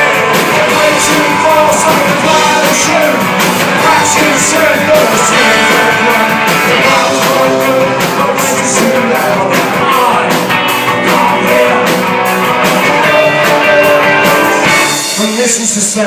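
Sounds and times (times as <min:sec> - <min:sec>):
drum beat: 0:00.0 - 0:15.5
guitars: 0:00.0 - 0:16.0.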